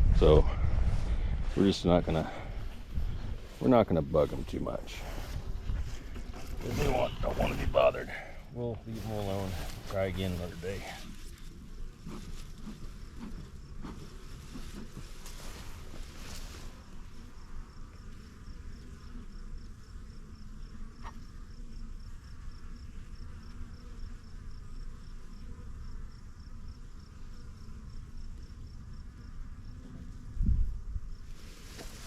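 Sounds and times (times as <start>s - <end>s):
honeybees buzzing: 1.3s - 32.0s.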